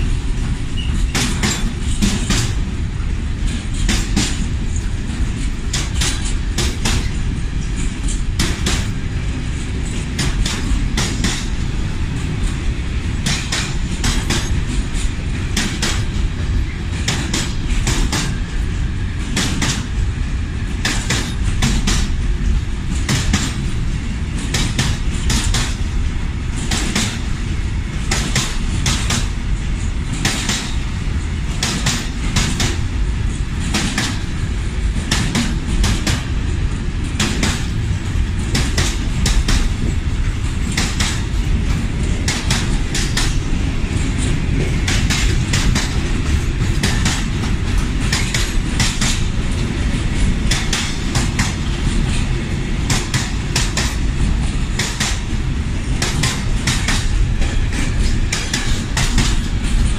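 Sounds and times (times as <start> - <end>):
freight train rumbling past: 0.0 - 59.9
wheels clacking over track joints: 0.3 - 2.8, 3.4 - 20.1, 20.7 - 27.3, 28.0 - 59.9.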